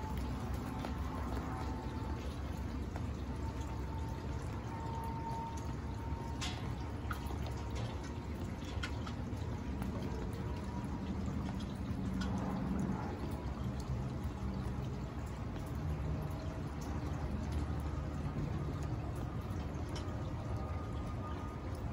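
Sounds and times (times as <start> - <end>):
rain pattering on pool and concrete: 0.0 - 21.9.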